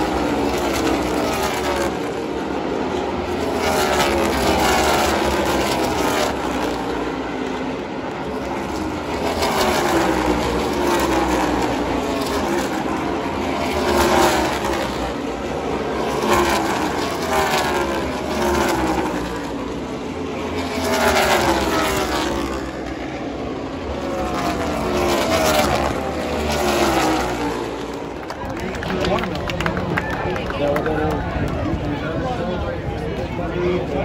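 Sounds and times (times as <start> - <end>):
race cars passing at speed: 0.0 - 34.0.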